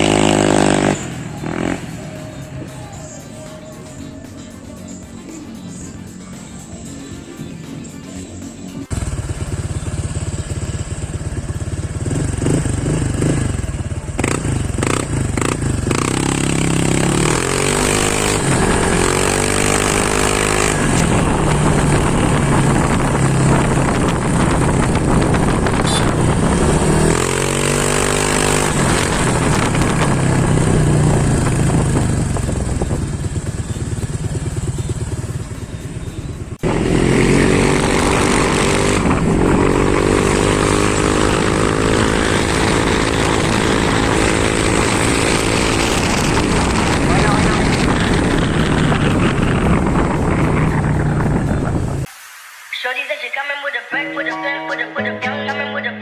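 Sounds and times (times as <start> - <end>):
scooter engine revving: 0.0 - 4.2, 4.9 - 52.1.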